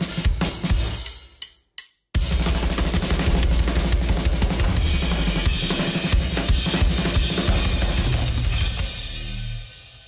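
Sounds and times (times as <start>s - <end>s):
drum kit beat: 0.0s - 10.0s.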